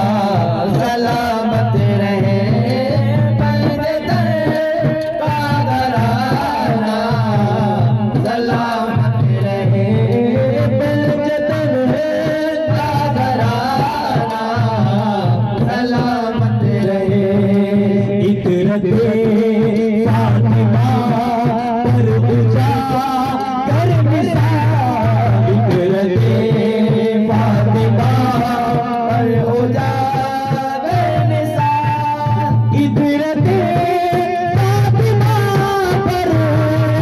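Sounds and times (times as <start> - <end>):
frame drums beating: 0.0 - 37.0
men singing into microphones: 0.0 - 37.0.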